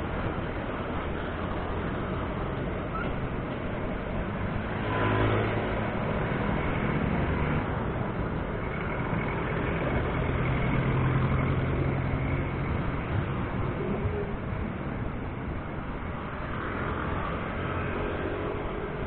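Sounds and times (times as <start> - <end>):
motor vehicle engine drone: 0.0 - 19.0
steady rushing noise: 0.0 - 19.0.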